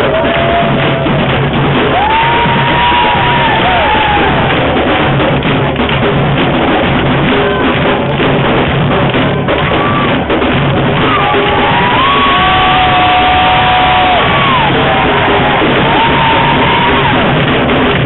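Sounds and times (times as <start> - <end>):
drum ensemble playing: 0.0 - 18.0.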